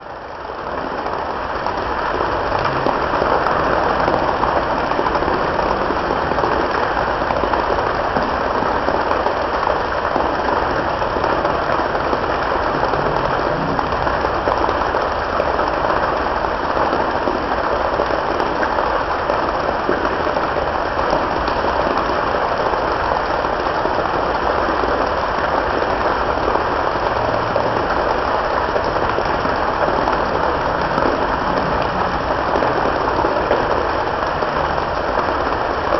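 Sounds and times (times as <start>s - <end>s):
waterfall rushing: 0.8s - 35.9s.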